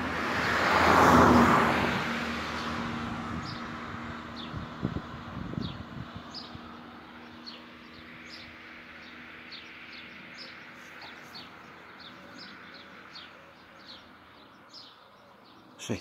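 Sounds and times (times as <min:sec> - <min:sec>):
outdoor background noise: 0:00.0 - 0:16.0
small birds chirping: 0:02.4 - 0:16.0.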